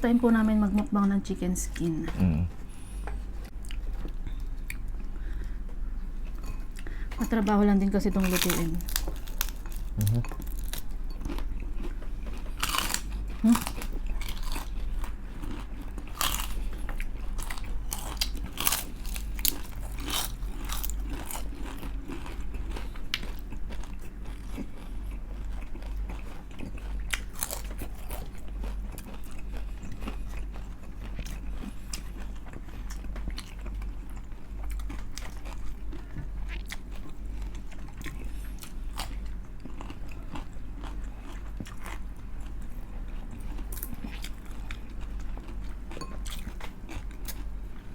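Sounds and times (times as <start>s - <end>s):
crunching bites and chewing: 8.4s - 47.6s.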